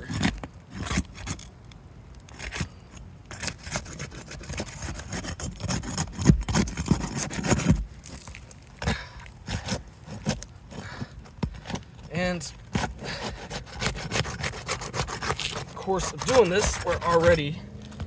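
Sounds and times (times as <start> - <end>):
tool scraping under roof shingle: 0.0 - 1.6, 2.2 - 18.0.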